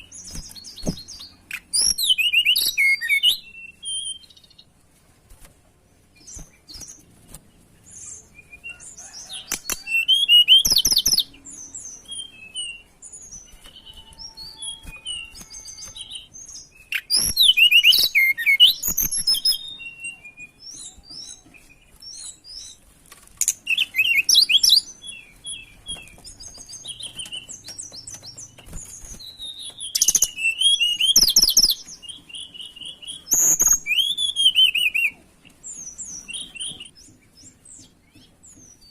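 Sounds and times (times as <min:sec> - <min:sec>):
soft bird chirps: 0:00.0 - 0:04.7, 0:05.9 - 0:38.9
songbird chirping trills: 0:05.8 - 0:38.9.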